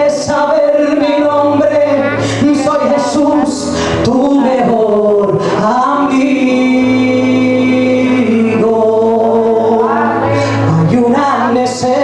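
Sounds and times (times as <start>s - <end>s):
person singing worship song: 0.0s - 12.0s.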